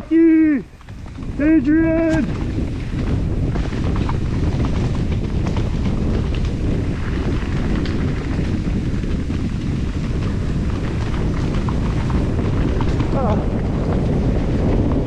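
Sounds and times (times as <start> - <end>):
wind rumble on microphone: 0.0 - 15.0
bike frame and chain rattling: 0.7 - 15.0.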